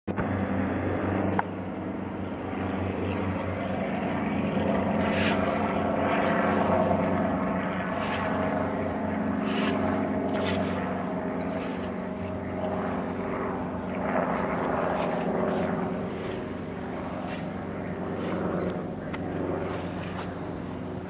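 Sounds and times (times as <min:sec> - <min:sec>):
helicopter engine and rotor drone: 0:00.1 - 0:21.0.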